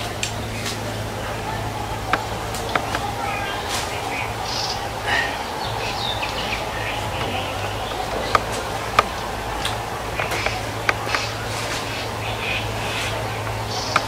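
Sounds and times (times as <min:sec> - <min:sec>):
small birds chirping: 0:00.0 - 0:14.0
steady low hum: 0:00.0 - 0:14.0
stick snapping: 0:00.0 - 0:14.0.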